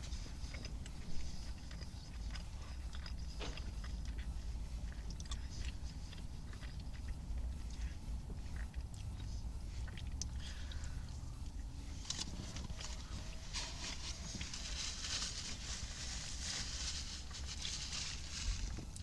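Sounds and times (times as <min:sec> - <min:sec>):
person chewing food: 0:00.0 - 0:19.0
steady low rumble: 0:00.0 - 0:19.0
small clicks and crackles: 0:00.4 - 0:19.0.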